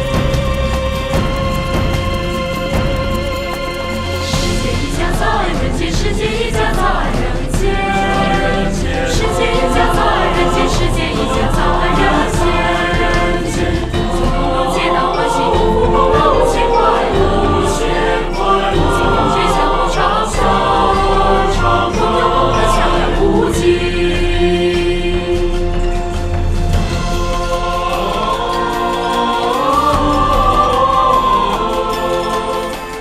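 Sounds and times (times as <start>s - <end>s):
choral singing: 0.0s - 33.0s
instrumental backing music: 0.0s - 33.0s
steady percussive beat: 0.0s - 33.0s.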